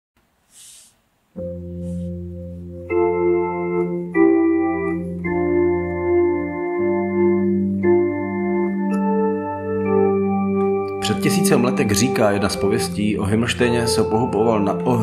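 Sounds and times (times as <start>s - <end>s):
electronic keyboard held chords: 1.3s - 15.0s.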